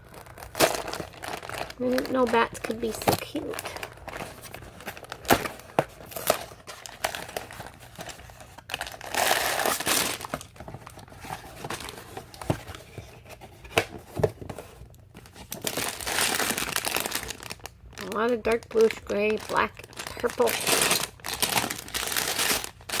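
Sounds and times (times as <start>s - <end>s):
plastic bags crinkling and rustling: 0.0s - 23.0s.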